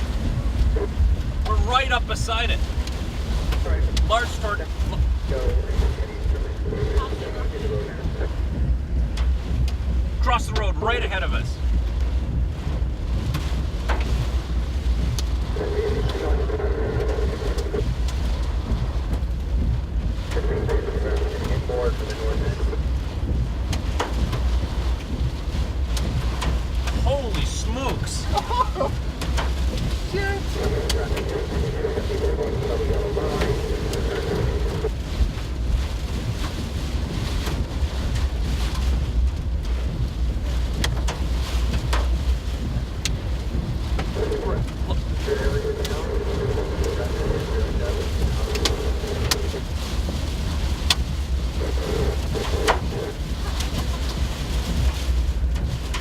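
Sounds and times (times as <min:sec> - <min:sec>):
vehicle rumble from inside cabin: 0:00.0 - 0:56.0
wind noise: 0:00.0 - 0:56.0.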